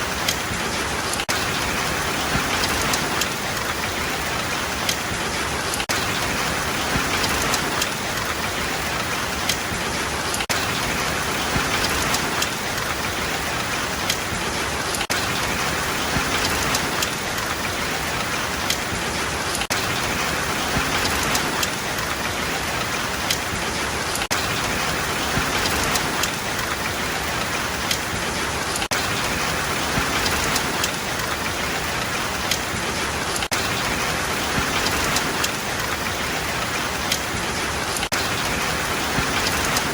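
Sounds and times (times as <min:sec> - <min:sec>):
raindrops ticking on a surface: 0:00.0 - 0:39.9
steady rain hiss: 0:00.0 - 0:39.9.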